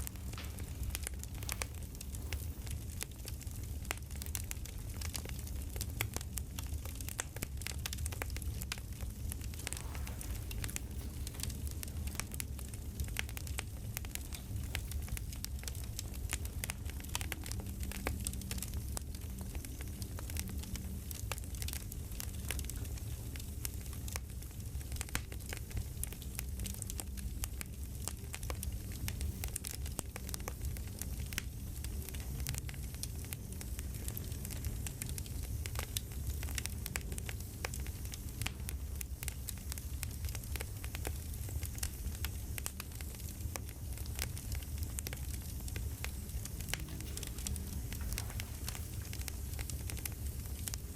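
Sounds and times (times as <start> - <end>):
campfire crackling: 0.0 - 50.9
fire pops and snaps: 0.0 - 50.9
low rumble of flames: 0.0 - 50.9.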